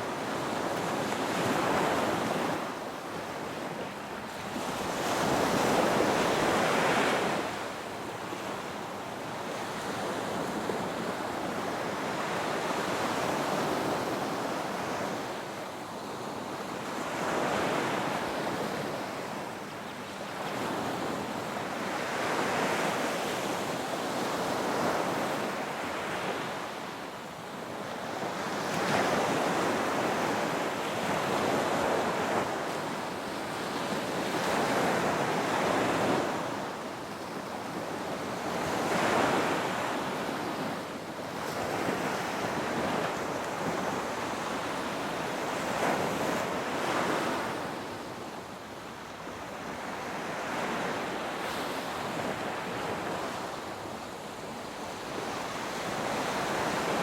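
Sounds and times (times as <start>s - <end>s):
wind: 0.0s - 57.0s.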